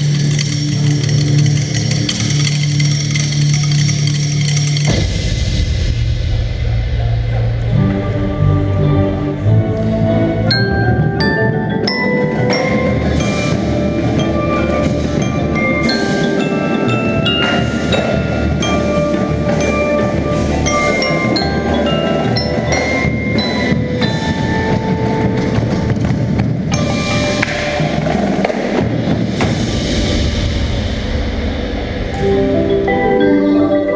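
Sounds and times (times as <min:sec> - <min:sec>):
glockenspiel and xylophone notes: 0:00.0 - 0:05.4, 0:07.9 - 0:30.2, 0:32.1 - 0:33.9
lower mallet instruments and drums: 0:00.0 - 0:33.9.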